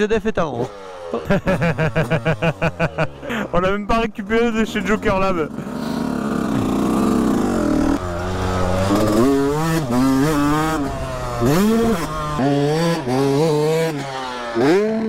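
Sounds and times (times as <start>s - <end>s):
dirt bike engine revving: 0.5s - 15.0s.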